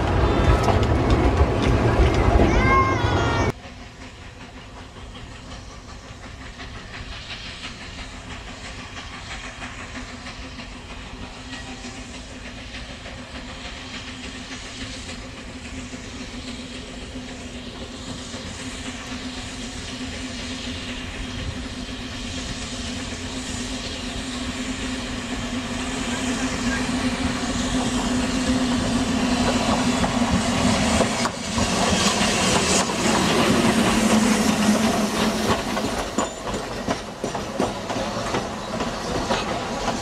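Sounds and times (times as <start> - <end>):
steam locomotive hissing: 0.0 - 40.0.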